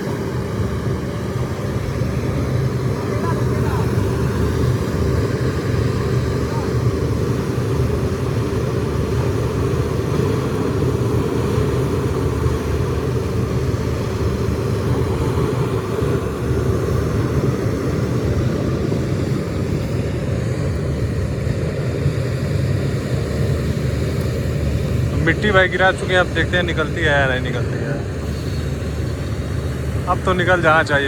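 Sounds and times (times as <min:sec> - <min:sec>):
heavy diesel truck engine: 0:00.0 - 0:31.0.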